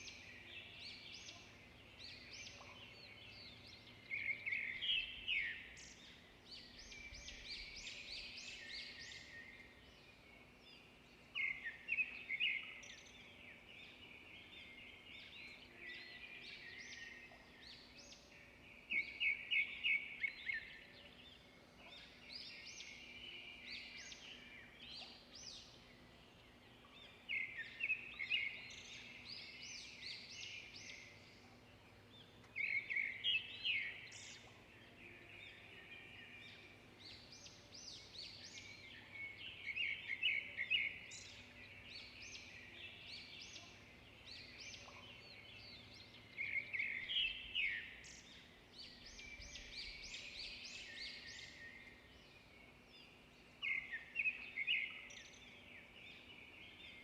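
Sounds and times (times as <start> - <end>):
songbirds chattering: 0.0 - 57.0.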